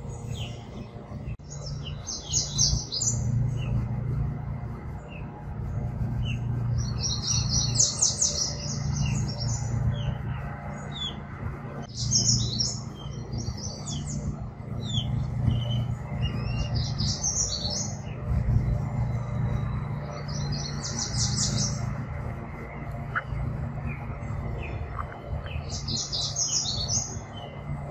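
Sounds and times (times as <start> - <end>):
songbirds chirping and twittering: 0.0 - 27.9
steady low hum: 0.0 - 27.9.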